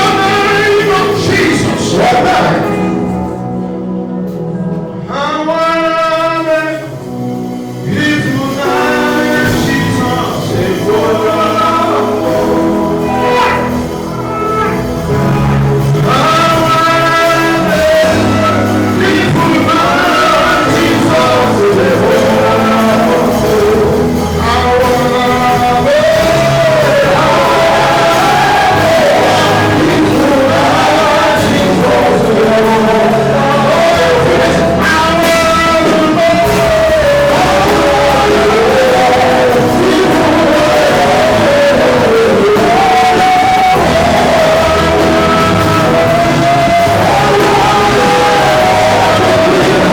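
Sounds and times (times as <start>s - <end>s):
band with bass and drums: 0.0s - 5.2s, 6.2s - 49.9s
singing voices: 0.0s - 49.9s.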